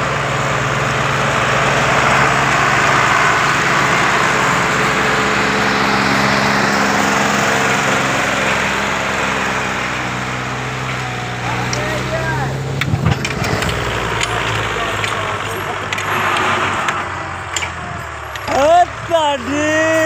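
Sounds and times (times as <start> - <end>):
tractor diesel engine straining: 0.0 - 20.0.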